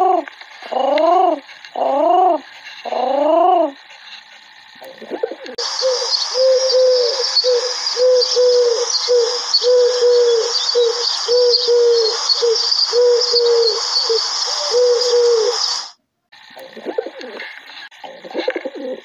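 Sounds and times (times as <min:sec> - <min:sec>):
dove cooing: 0:00.0 - 0:04.0, 0:04.8 - 0:15.9, 0:16.6 - 0:19.0
steady high hiss: 0:00.0 - 0:19.0.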